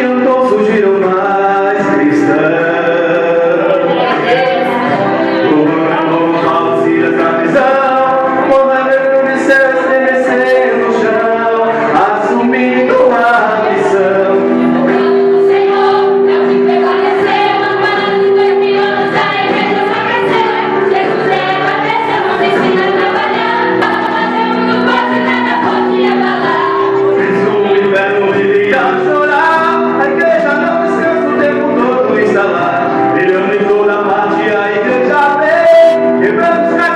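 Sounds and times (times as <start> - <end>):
vocal group singing worship music: 0.0 - 36.9.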